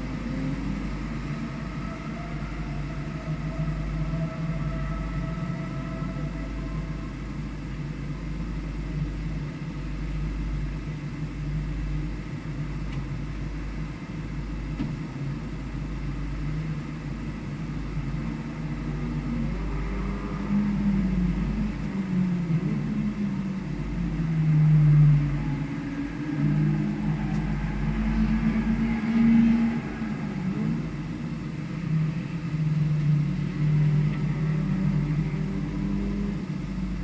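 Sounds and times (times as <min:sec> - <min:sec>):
steady low rumble: 0:00.0 - 0:37.0
vehicle engine accelerating: 0:00.0 - 0:37.0.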